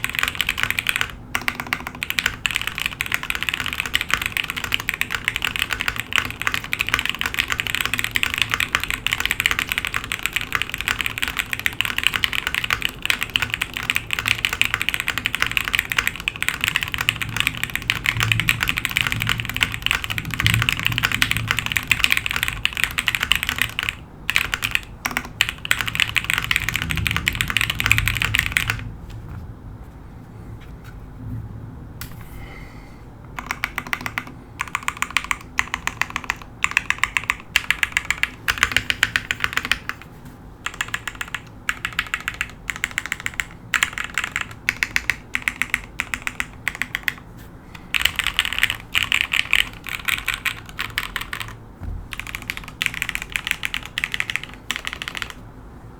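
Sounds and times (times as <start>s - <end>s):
mechanical keyboard typing: 0.0s - 28.9s, 33.3s - 55.4s.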